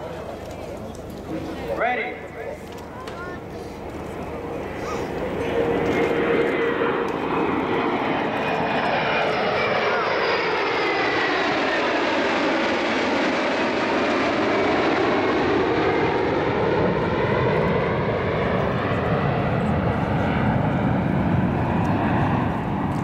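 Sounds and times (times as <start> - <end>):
jet roar passing overhead: 1.1 - 23.0.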